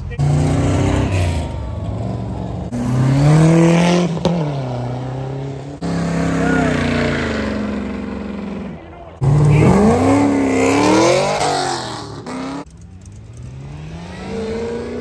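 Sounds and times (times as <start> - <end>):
car engines revving past: 0.0 - 15.0.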